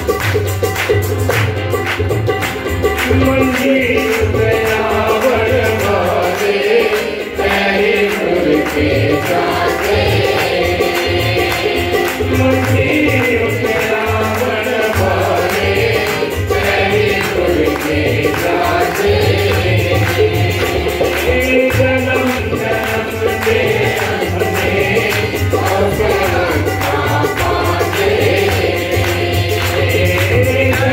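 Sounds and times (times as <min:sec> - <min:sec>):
harmonium chords: 0:00.0 - 0:30.9.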